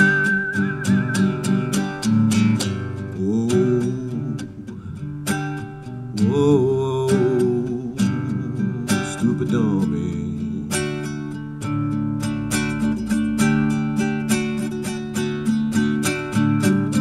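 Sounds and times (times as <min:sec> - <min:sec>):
fingerpicked classical guitar: 0:00.0 - 0:17.0.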